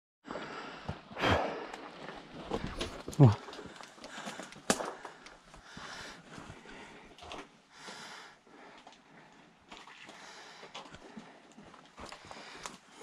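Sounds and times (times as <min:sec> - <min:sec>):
person breathing hard: 0:00.3 - 0:01.9, 0:03.2 - 0:13.0.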